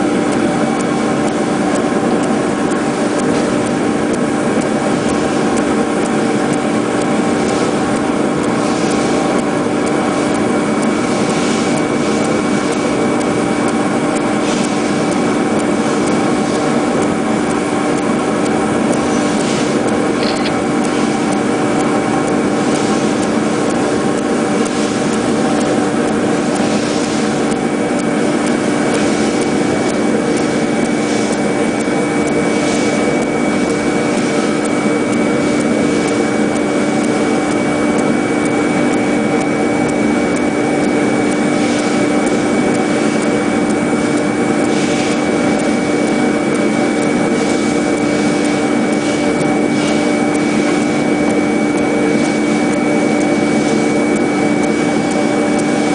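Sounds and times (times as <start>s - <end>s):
cutting machine humming and whining: 0.0s - 55.9s.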